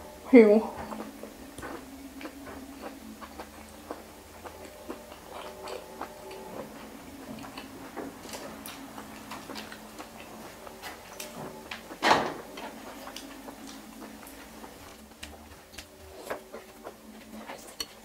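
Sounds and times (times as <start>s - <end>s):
faint steady hum: 0.0s - 18.0s
person chewing: 0.9s - 18.0s.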